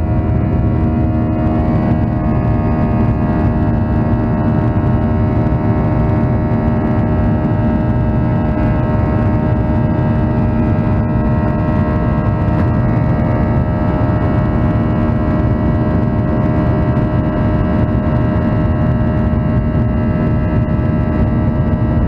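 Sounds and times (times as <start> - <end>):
jet engines humming in cabin: 0.0 - 22.0.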